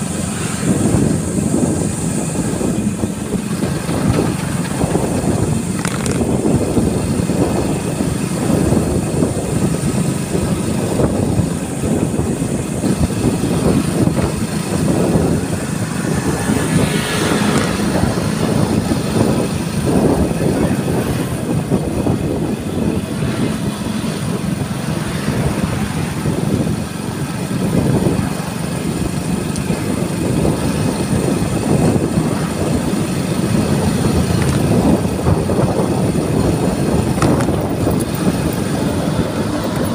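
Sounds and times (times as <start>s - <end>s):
motorcycle engine running: 0.0s - 39.9s
road noise: 0.0s - 39.9s
wind rushing over microphone: 0.0s - 39.9s.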